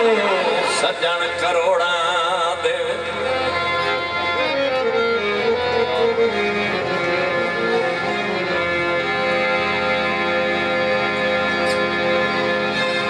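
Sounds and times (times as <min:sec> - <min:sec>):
harmonium melody: 0:00.0 - 0:13.0
wavering note: 0:02.5 - 0:13.0.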